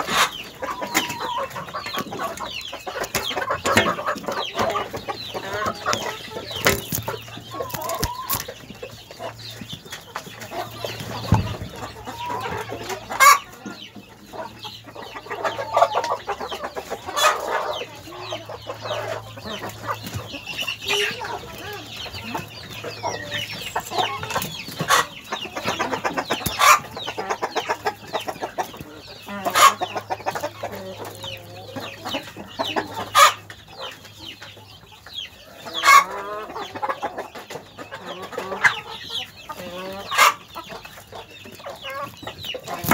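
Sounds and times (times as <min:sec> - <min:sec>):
hens clucking: 0:00.0 - 0:42.9.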